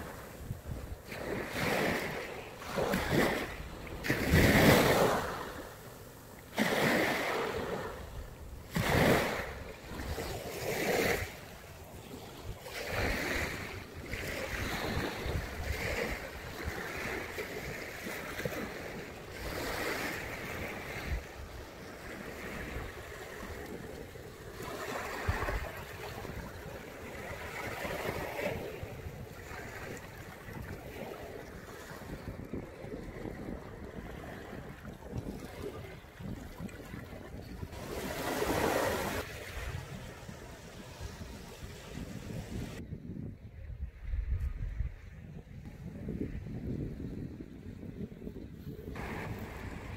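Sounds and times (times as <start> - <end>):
sea waves washing onto beach: 0.0 - 42.8, 48.9 - 49.9
wind rumbling on microphone: 0.0 - 49.9.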